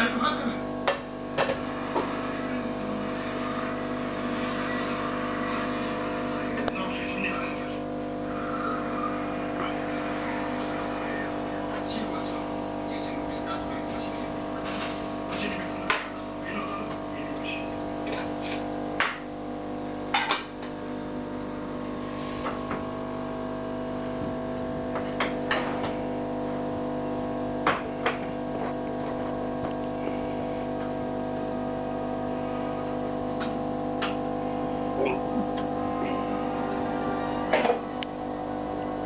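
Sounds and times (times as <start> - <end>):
aquarium air pump humming: 0.0 - 39.0.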